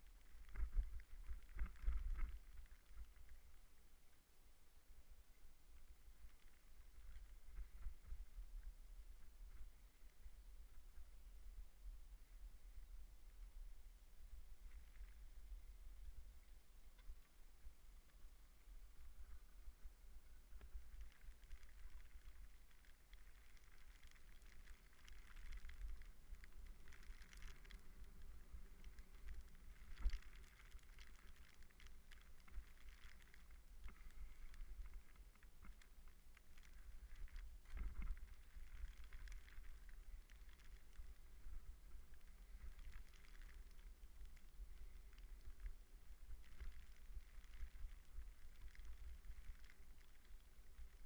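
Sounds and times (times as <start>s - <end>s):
wind rumbling on microphone: 0.0s - 3.8s, 5.8s - 51.0s.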